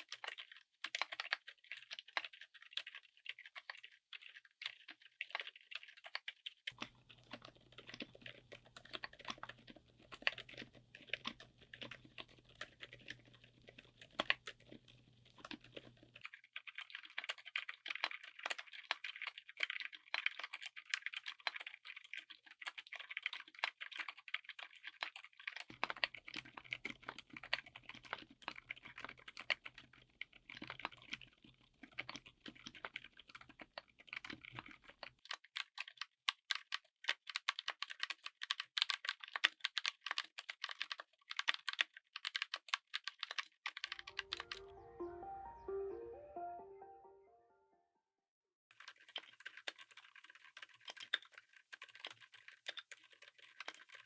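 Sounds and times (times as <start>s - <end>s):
soft keyboard typing: 0.0s - 47.5s, 48.8s - 54.0s.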